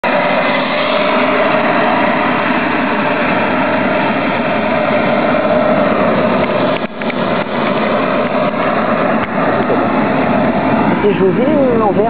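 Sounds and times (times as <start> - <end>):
model jet turbine running: 0.0 - 12.0.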